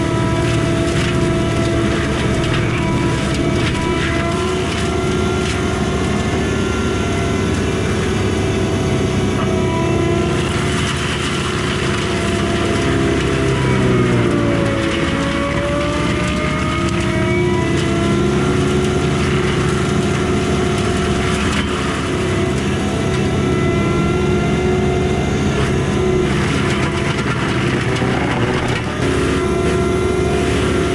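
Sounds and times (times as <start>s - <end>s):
diesel engine running hard: 0.0s - 30.9s
mulcher whine: 0.0s - 30.9s.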